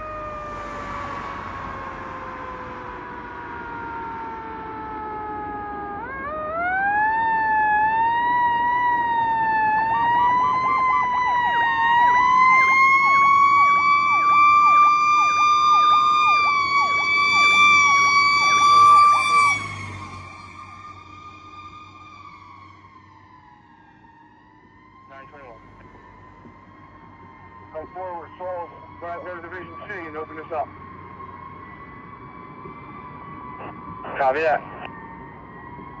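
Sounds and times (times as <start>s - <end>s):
fire engine siren wail: 0.0s - 36.0s
siren yelp tone: 0.0s - 36.0s.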